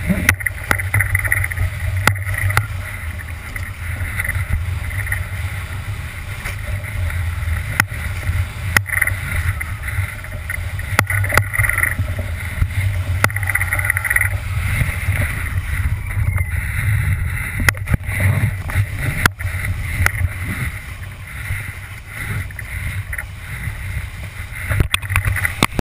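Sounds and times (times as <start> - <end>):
rushing water: 0.0 - 25.8
wind buffeting microphone: 0.0 - 25.8.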